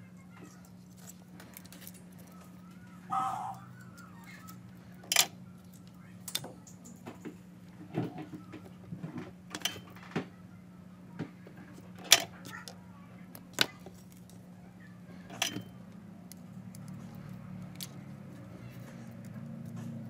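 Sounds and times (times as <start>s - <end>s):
clicks and knocks of small parts: 0.3s - 3.0s, 3.7s - 10.4s, 11.2s - 14.5s, 15.1s - 20.0s.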